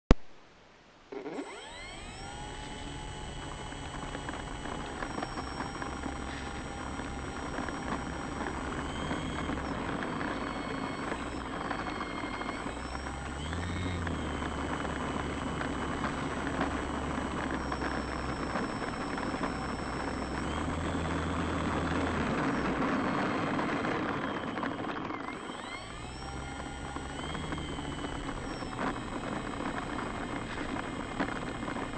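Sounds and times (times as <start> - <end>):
model plane motor buzzing whine: 1.1 - 31.9.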